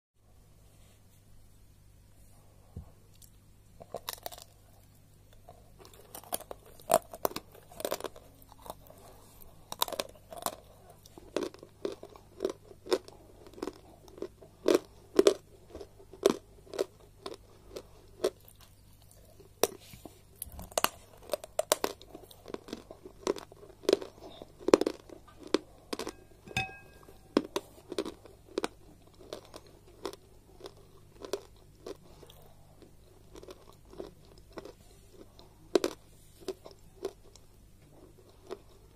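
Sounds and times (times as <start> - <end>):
crunching and chewing chalk: 3.1 - 38.9.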